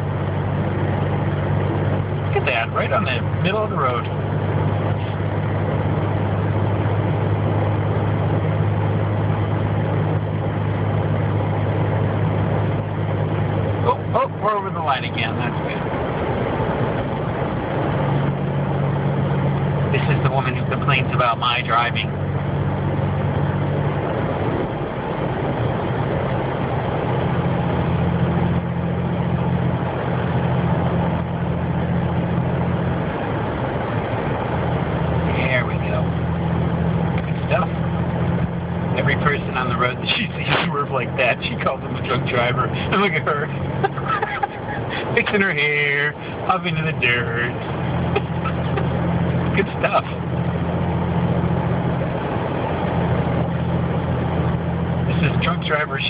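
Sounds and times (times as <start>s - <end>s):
car engine drone: 0.0s - 56.0s
tyres on the road: 0.0s - 56.0s.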